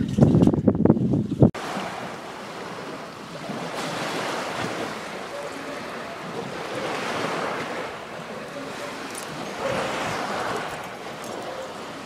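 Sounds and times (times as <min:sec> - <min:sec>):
wind on microphone: 0:00.0 - 0:12.0
water washing against stone shore: 0:01.5 - 0:12.0.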